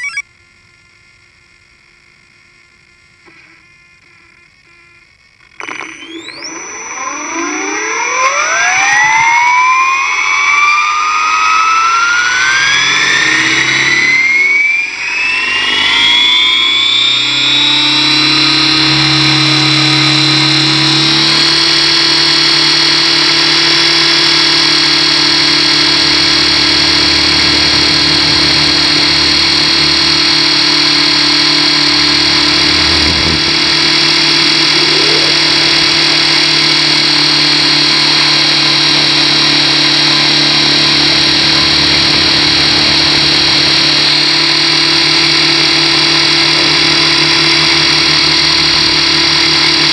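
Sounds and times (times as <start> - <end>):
rc helicopter rotor whine: 0.0 - 49.9.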